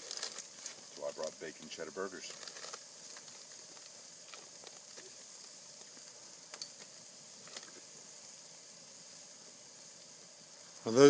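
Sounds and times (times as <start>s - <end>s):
campfire crackling: 0.0s - 11.0s
steady high hiss: 0.0s - 11.0s.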